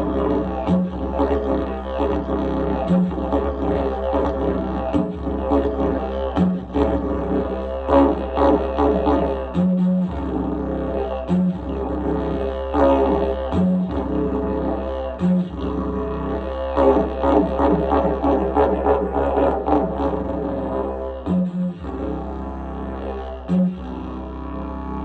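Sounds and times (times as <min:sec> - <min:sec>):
didgeridoo drone: 0:00.0 - 0:25.0.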